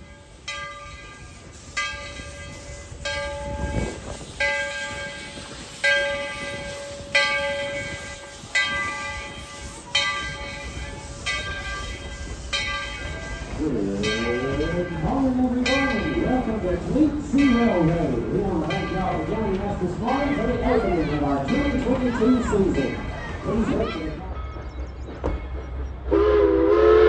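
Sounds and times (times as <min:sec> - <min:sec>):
locomotive bell ringing: 0:00.0 - 0:27.0.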